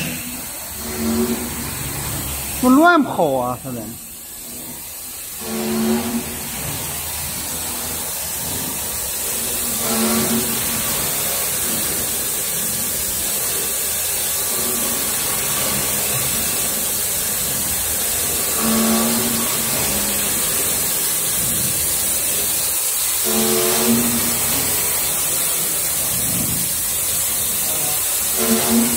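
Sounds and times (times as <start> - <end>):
drilling machine mechanical hiss: 0.0 - 28.9.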